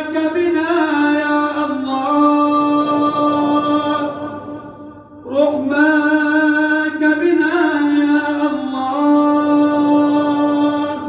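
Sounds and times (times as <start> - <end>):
man chanting prayer: 0.0 - 11.0.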